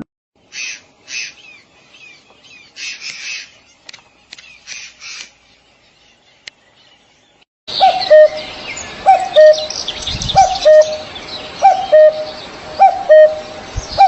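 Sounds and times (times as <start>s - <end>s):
harsh scratchy bird calls: 0.4s - 14.0s.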